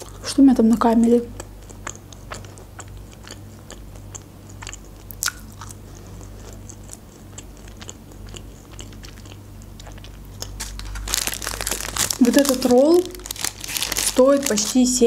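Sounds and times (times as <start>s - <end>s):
chewing fries: 0.0s - 15.0s.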